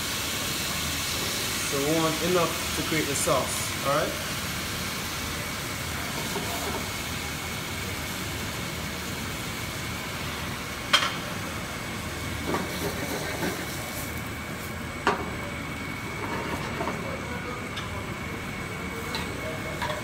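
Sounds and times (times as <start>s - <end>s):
hot pan hissing: 0.0s - 20.0s.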